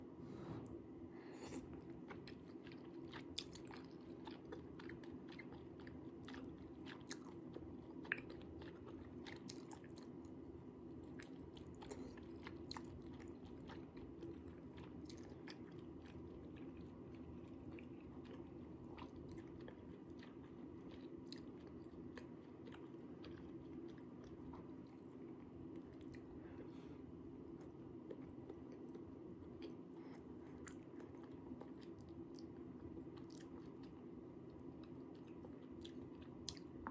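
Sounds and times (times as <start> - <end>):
person chewing: 1.4 - 10.4, 11.0 - 26.4, 27.6 - 36.9.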